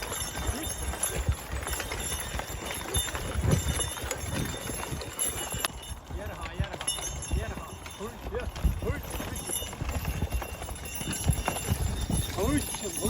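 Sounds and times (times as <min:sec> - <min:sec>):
horse hooves thudding on soil: 0:00.0 - 0:13.0.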